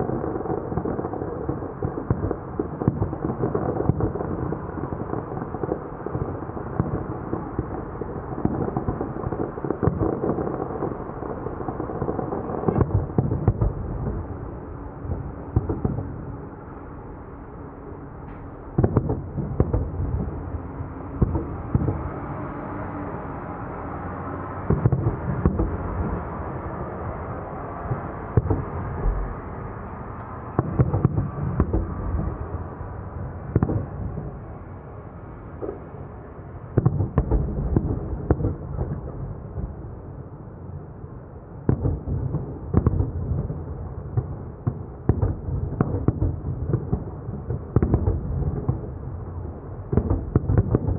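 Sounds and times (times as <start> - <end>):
fireworks booming and popping: 0.0 - 16.5, 18.2 - 22.5, 24.6 - 34.6, 35.5 - 36.1, 36.7 - 40.0, 41.6 - 50.9.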